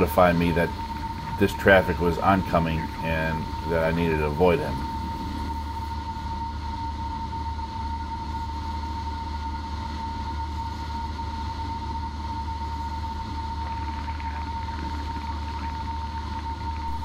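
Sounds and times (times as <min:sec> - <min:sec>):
airplane engine and propeller droning: 0:00.0 - 0:17.0
constant high-pitched tone: 0:00.0 - 0:17.0.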